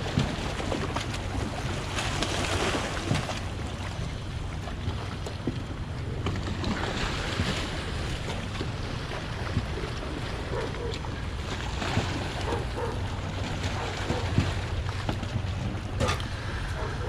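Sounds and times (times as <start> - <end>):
steady low hum: 0.0 - 17.0
water moving around boats: 0.0 - 17.0.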